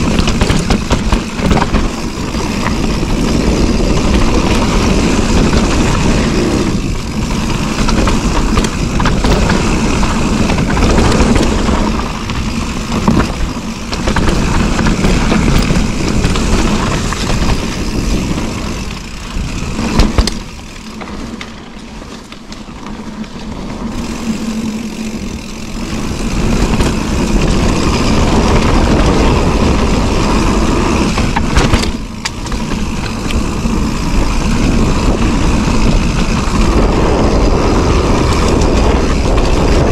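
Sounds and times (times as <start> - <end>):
bike tyres on dirt: 0.0 - 39.9
wind rumble on microphone: 0.0 - 39.9.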